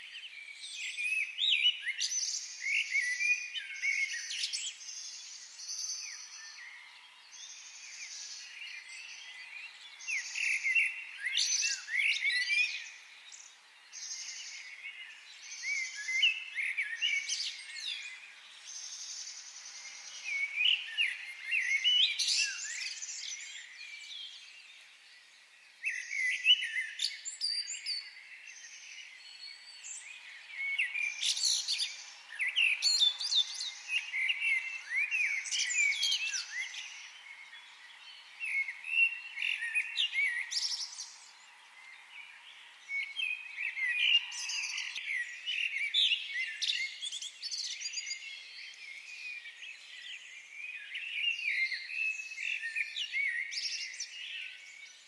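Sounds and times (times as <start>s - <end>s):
birds chirping and whistling: 0.0s - 24.6s, 25.8s - 55.0s.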